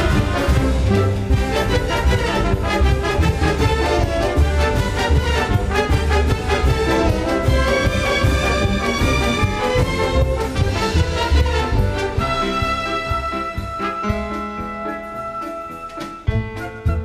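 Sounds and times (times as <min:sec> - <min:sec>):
brass: 0:00.0 - 0:17.0
strings: 0:00.0 - 0:17.0.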